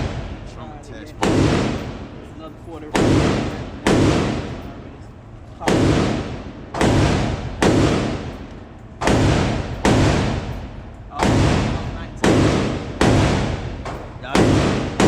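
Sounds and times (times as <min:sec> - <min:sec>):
gunshots with echoing decay: 0:00.0 - 0:00.5, 0:01.1 - 0:04.8, 0:05.6 - 0:15.0.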